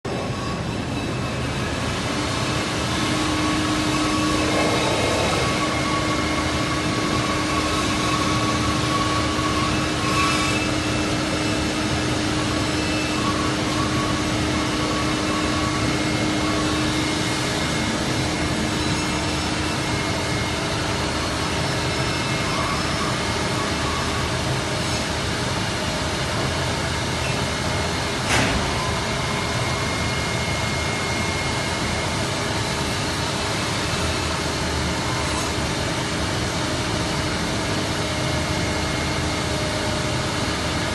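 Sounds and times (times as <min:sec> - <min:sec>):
machine hum with whine: 0:00.1 - 0:40.9.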